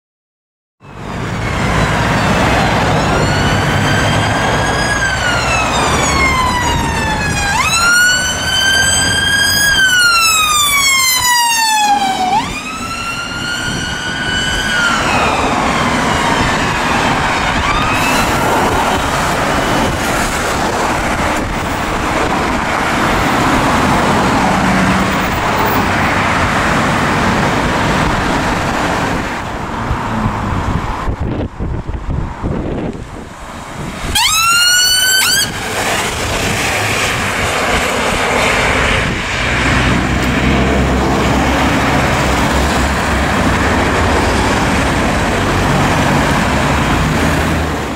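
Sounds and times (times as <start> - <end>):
ambulance siren sweep: 0.8 - 30.0, 33.1 - 47.9
road traffic passing: 0.8 - 47.9.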